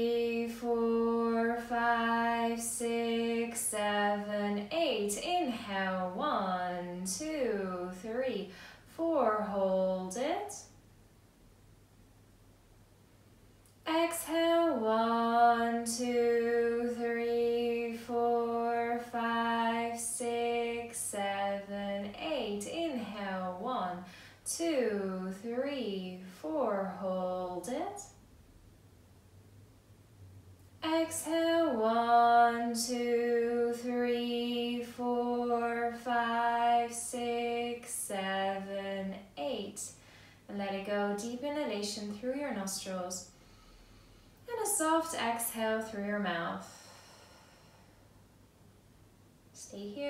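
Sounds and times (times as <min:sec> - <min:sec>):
woman chanting: 0:00.0 - 0:10.7, 0:13.8 - 0:28.2, 0:30.8 - 0:43.3, 0:44.5 - 0:47.8, 0:49.6 - 0:50.0
woman counting slowly: 0:00.0 - 0:10.7, 0:13.8 - 0:28.2, 0:30.8 - 0:43.3, 0:44.5 - 0:46.8, 0:49.6 - 0:50.0.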